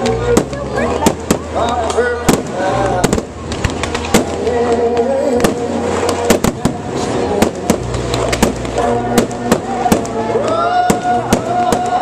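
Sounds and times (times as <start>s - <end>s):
fireworks crackling: 0.0s - 12.0s
fireworks bangs: 0.3s - 4.5s, 5.3s - 10.2s, 10.8s - 12.0s.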